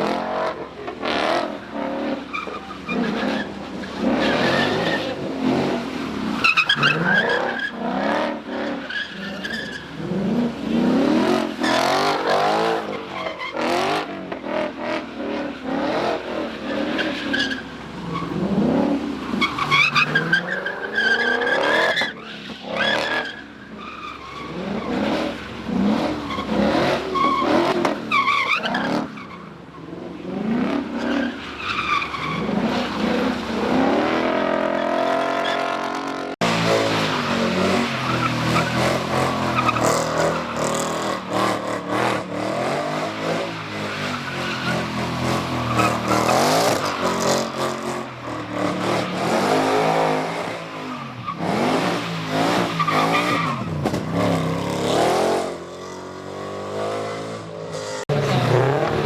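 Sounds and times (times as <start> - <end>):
car engines revving: 0.0 - 59.0
tyres squealing and skidding: 0.0 - 59.0.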